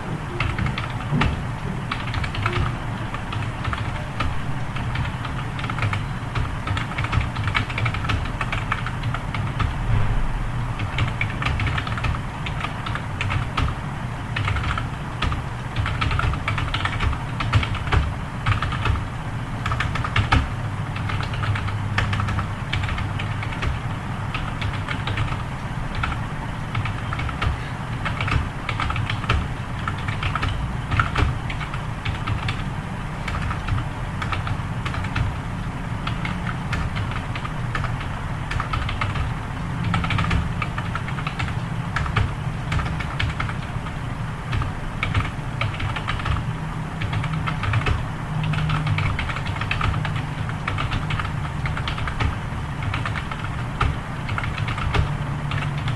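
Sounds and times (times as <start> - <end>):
steady low hum: 0.0 - 55.9
computer keyboard typing: 0.3 - 9.7, 10.8 - 55.9.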